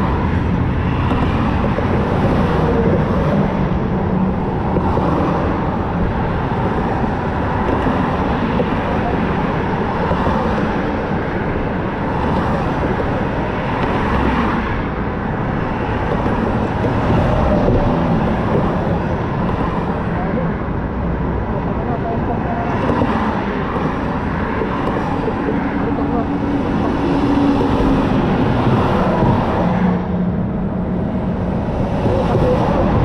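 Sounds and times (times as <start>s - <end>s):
wind on microphone: 0.0s - 33.0s.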